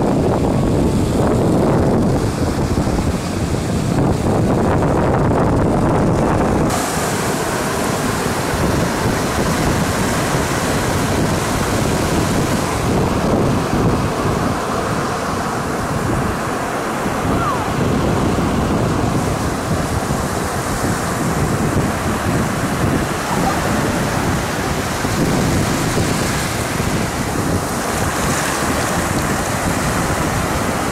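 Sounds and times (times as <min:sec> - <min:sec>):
ocean surf breaking: 0:00.0 - 0:30.9
wind buffeting microphone: 0:00.0 - 0:30.9.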